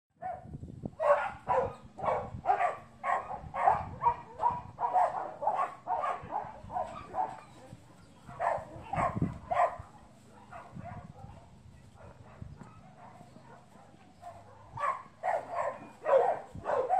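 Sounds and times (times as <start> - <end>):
dog barking high-pitched: 0.2 - 7.7, 8.3 - 16.9.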